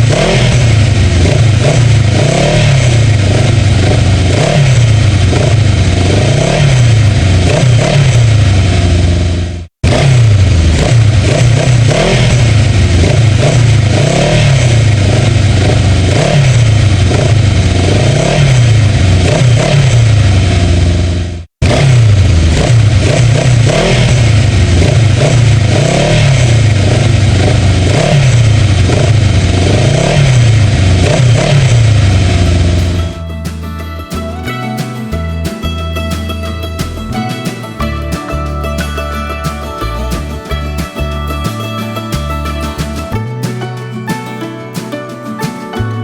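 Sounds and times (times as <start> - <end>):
motorcycle engine revving: 0.0 - 44.2.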